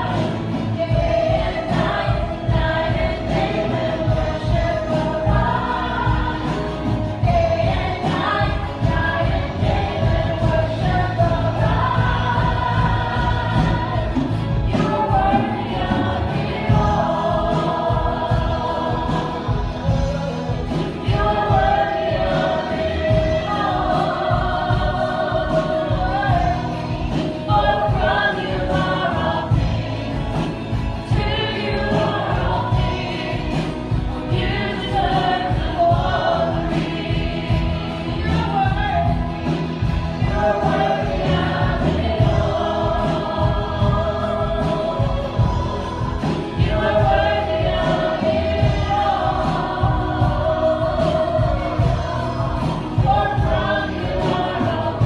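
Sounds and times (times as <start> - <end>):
group singing worship music: 0.0 - 55.0.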